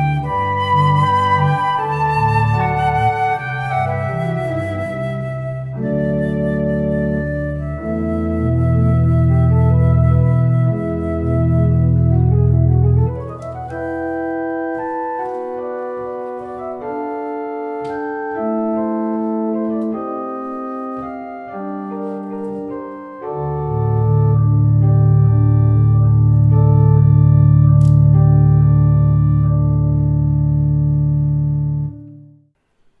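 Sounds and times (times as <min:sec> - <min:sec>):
electronic organ chords: 0:00.0 - 0:32.5.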